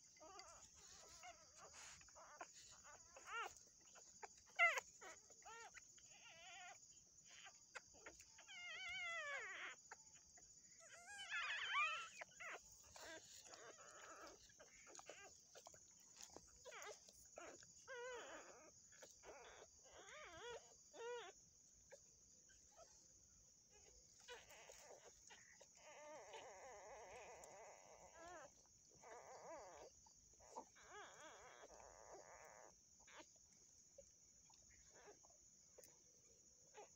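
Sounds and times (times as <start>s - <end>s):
newborn puppies crying: 0.2s - 23.0s, 23.7s - 33.3s.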